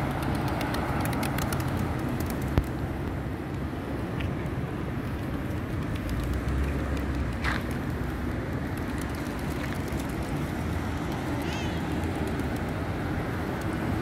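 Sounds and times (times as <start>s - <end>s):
cars passing on busy road: 0.0s - 14.0s.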